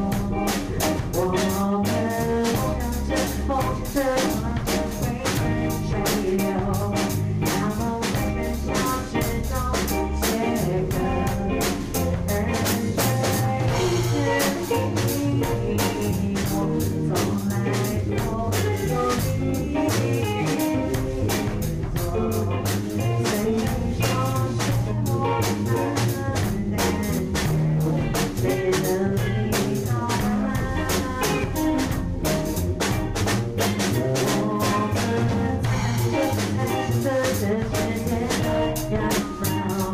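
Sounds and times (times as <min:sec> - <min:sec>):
drum kit beat: 0:00.0 - 0:39.9
instrumental band music: 0:00.0 - 0:39.9.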